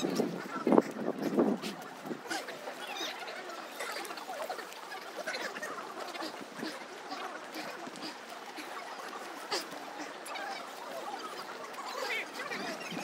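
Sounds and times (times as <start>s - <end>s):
faint indistinct voices and calls: 0.0s - 13.0s.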